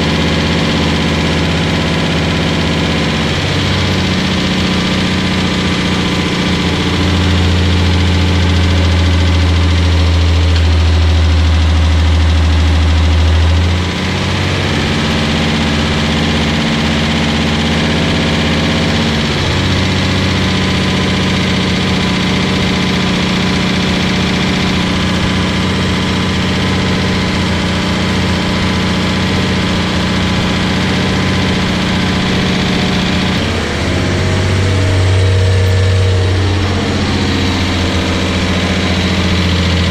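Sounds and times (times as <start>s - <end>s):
car engine at fast idle: 0.0s - 39.9s.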